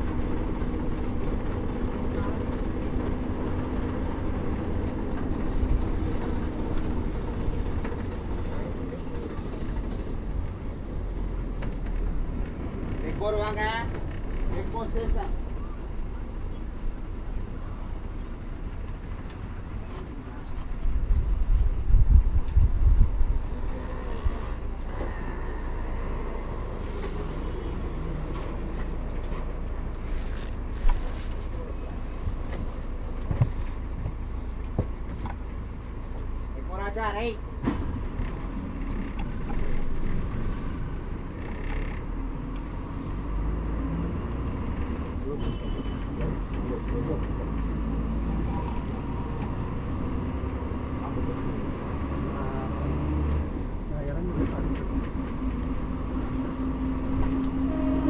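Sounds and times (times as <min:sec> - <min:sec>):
bus engine hum: 0:00.0 - 0:58.0
road rumble: 0:00.0 - 0:58.0.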